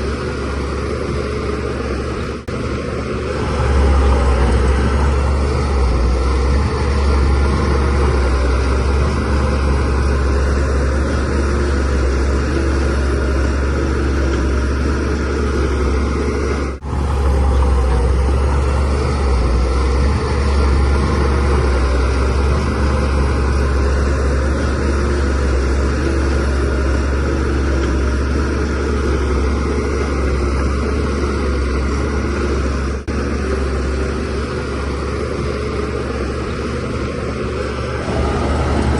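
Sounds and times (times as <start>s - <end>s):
bulldozer diesel engine rumbling: 0.0s - 38.9s.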